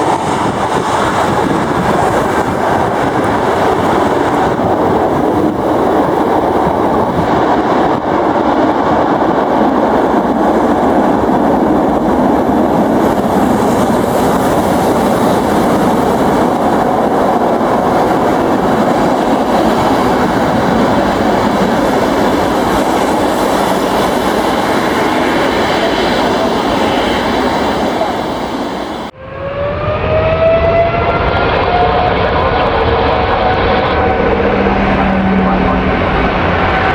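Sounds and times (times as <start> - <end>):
jet engine rush with high whine: 0.0 - 36.9
jet engines spooling up: 0.0 - 36.9.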